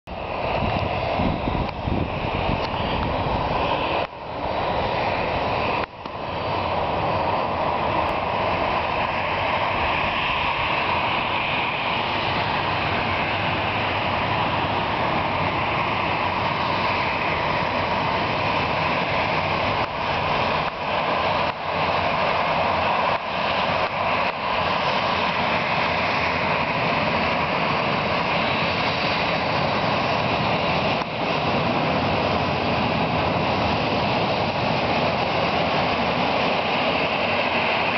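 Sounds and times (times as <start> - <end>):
jet engine noise: 0.1 - 37.9.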